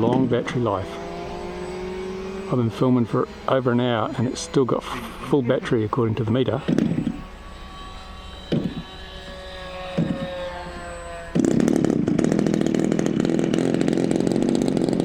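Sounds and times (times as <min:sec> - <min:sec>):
model aircraft engine buzzing: 0:00.0 - 0:15.0.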